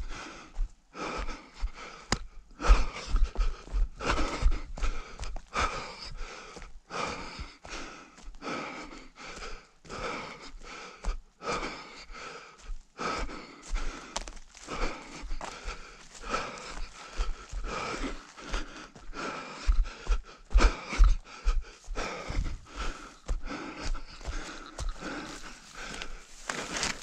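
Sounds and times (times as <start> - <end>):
runner panting hard: 0.0 - 27.0.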